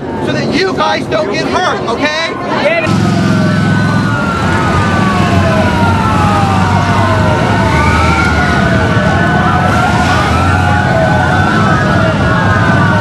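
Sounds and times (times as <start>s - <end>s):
emergency sirens wailing: 2.3s - 13.0s.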